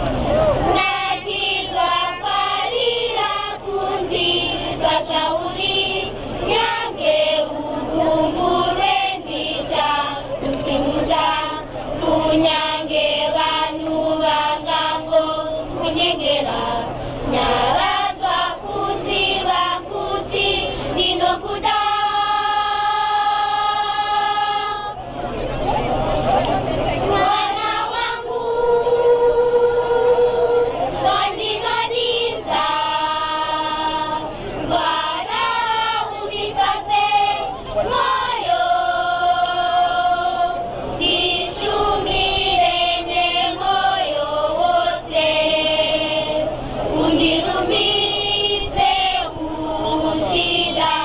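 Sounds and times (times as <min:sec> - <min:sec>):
children's choir singing: 0:00.0 - 0:25.2, 0:25.9 - 0:51.0.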